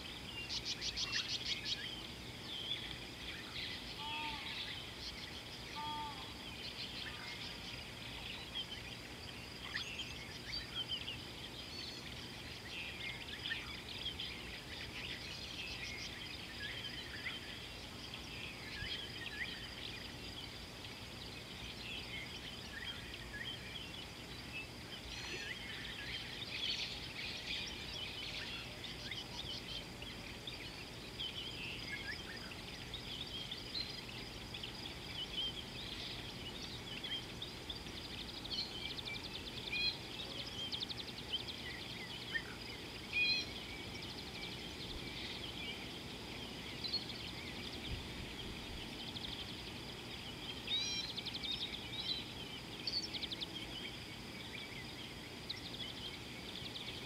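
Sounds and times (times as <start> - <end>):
birds chirping: 0.0 - 57.0
outdoor background hiss: 0.0 - 57.0.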